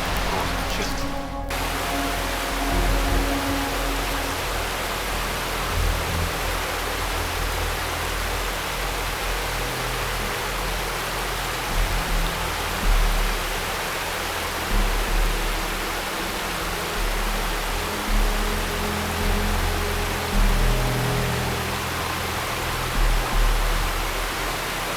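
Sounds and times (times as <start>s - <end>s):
mountain river rushing: 0.0s - 24.9s.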